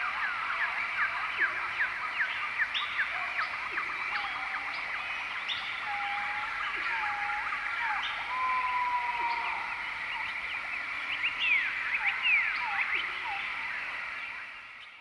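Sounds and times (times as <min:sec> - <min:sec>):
frogs and insects chorus: 0:00.0 - 0:15.0.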